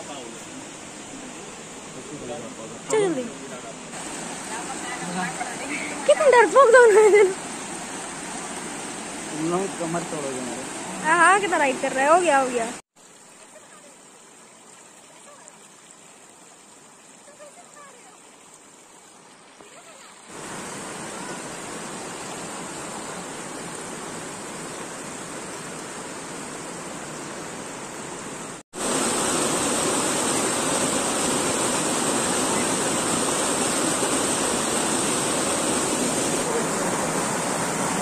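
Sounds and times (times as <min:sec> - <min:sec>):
stream water rushing over rocks: 0:00.0 - 0:38.0.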